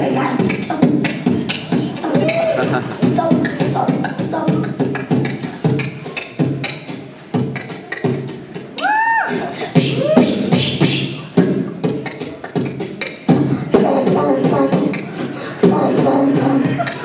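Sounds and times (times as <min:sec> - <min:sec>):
child beatboxing: 0:00.0 - 0:17.0.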